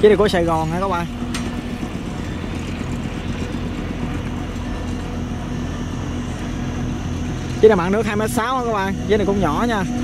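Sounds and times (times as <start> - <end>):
barge diesel engine droning: 0.0 - 10.0
low hum: 0.0 - 10.0.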